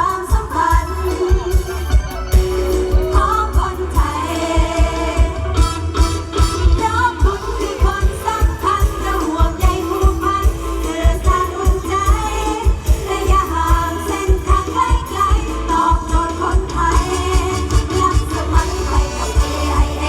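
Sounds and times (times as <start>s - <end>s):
driving drum beat: 0.0s - 20.0s
live folk band with singing: 0.0s - 20.0s.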